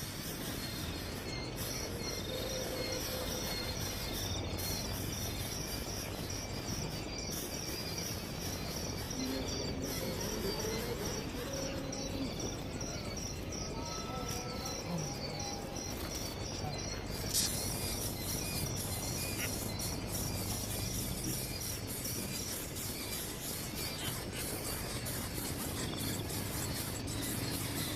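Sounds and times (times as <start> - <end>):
insects chirping in a trill: 0.0 - 27.9.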